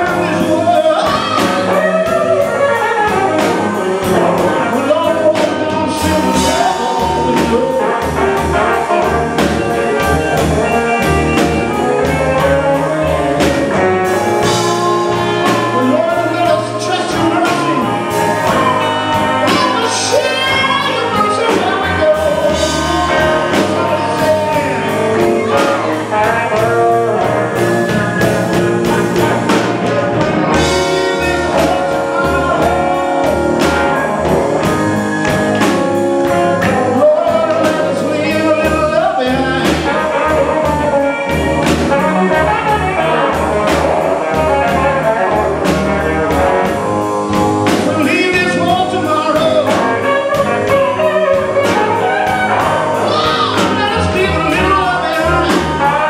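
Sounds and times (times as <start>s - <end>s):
man singing: 0.0s - 46.8s, 47.7s - 56.0s
live rock band playing: 0.0s - 56.0s.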